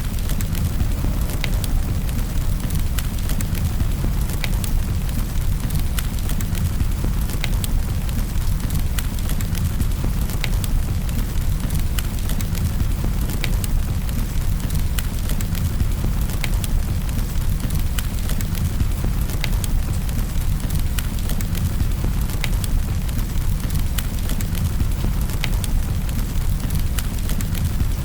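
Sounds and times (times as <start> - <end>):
fireplace fire crackling: 0.0 - 28.0.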